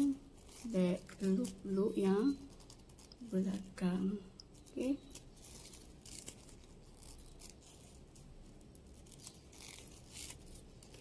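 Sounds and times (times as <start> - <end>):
yarn rustling through stitches: 0.0 - 11.0.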